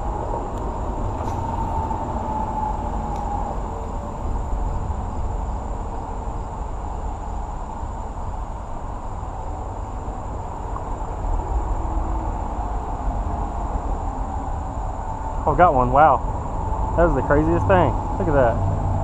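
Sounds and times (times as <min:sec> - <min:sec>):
distant highway traffic: 0:00.0 - 0:19.0.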